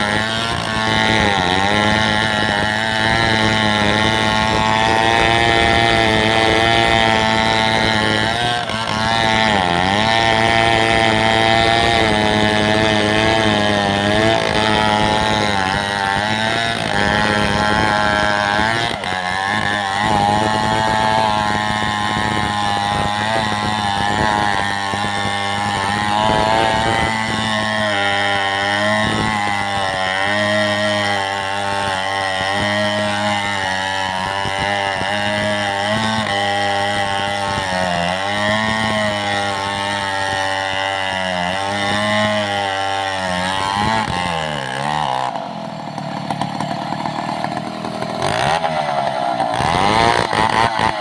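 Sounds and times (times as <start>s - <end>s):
chainsaw engine running: 0.0s - 51.0s.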